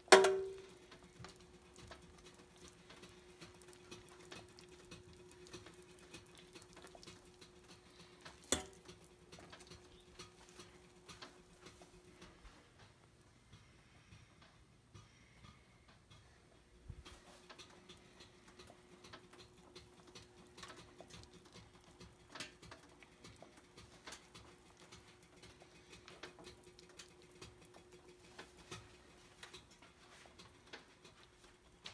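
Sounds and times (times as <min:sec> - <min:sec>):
fat crackling in roasting pan: 0:00.0 - 0:12.5, 0:17.0 - 0:31.9
faint oven hum: 0:00.0 - 0:31.9.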